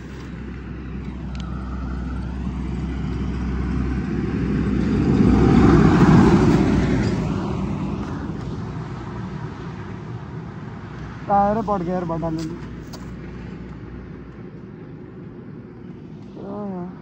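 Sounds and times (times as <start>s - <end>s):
vehicle passing on highway: 0.0s - 17.0s.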